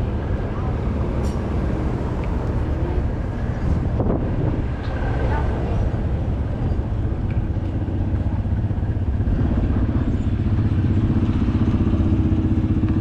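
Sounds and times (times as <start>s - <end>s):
engine puttering at low speed: 0.0s - 13.0s.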